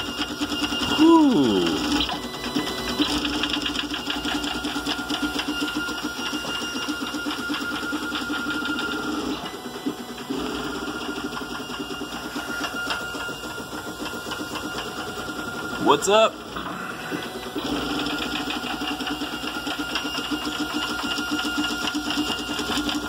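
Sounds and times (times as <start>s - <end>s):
stepper motors whirring and buzzing: 0.0s - 23.0s.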